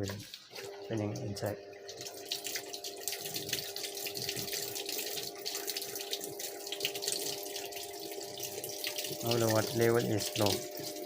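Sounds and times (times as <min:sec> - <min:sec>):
water pouring into washing machine: 0:00.0 - 0:11.0.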